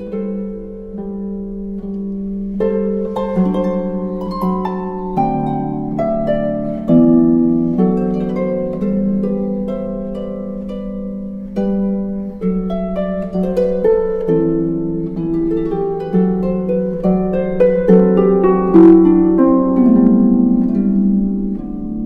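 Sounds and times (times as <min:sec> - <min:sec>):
gentle plucked melody: 0:00.0 - 0:22.0.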